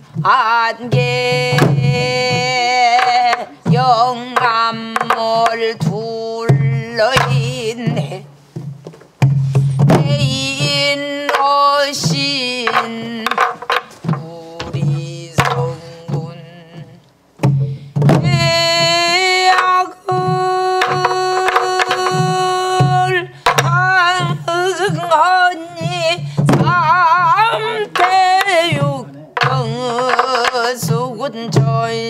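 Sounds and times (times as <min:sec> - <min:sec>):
woman singing with vibrato: 0:00.0 - 0:08.3, 0:09.8 - 0:17.1, 0:18.1 - 0:32.0
barrel drum thumps: 0:00.1 - 0:32.0.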